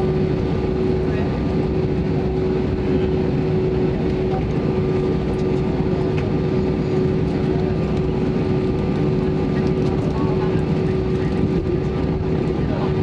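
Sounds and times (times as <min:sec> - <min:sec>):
jet engines drone from cabin: 0:00.0 - 0:13.0.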